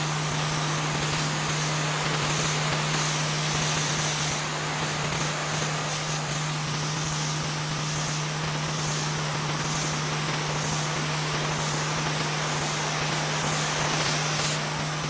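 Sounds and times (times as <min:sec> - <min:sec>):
pressure washer motor drone: 0:00.0 - 0:15.0
water spray hiss: 0:00.0 - 0:15.0.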